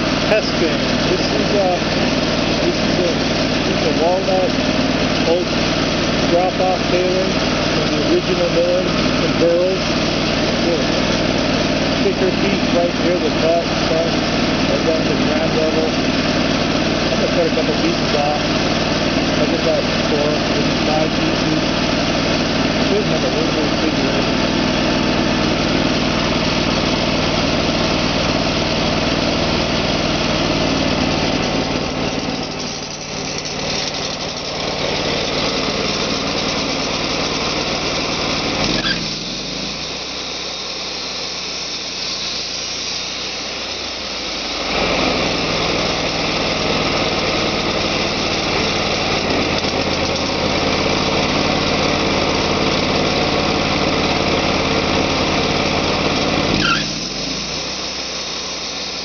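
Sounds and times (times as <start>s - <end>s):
sawmill engine sawing log: 0.0s - 59.0s.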